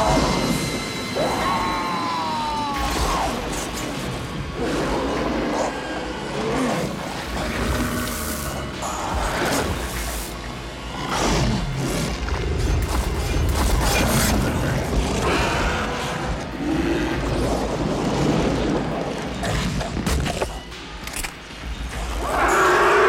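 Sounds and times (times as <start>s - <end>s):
dramatic film score: 0.0s - 23.0s.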